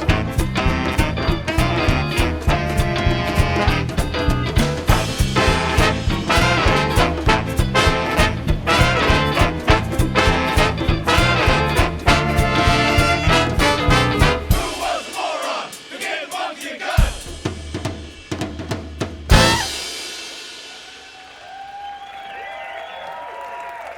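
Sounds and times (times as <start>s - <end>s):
big band playing swing: 0.0s - 21.3s.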